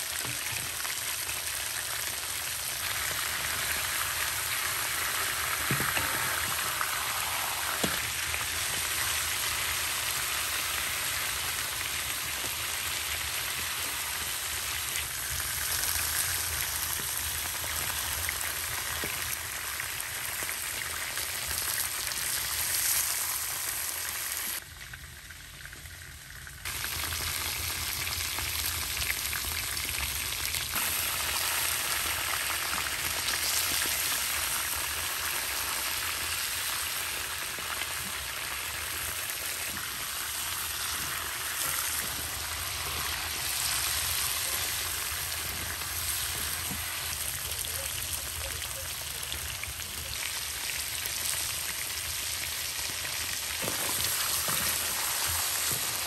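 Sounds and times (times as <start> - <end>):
food sizzling in a pan: 0.0 - 24.6, 26.1 - 56.0.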